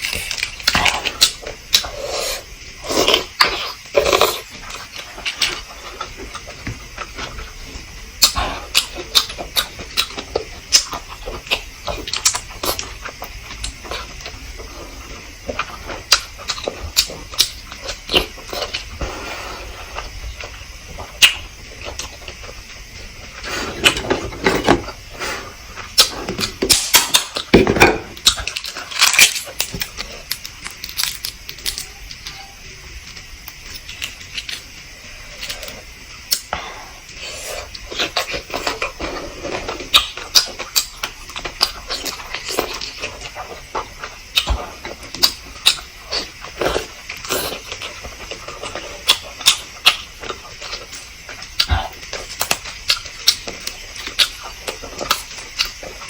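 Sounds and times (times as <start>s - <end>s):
person chewing: 0.0s - 32.4s, 33.0s - 56.0s.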